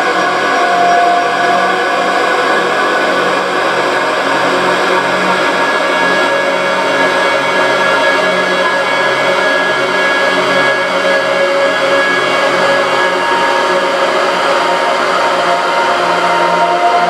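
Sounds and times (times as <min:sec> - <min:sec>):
drone music: 0:00.0 - 0:17.0.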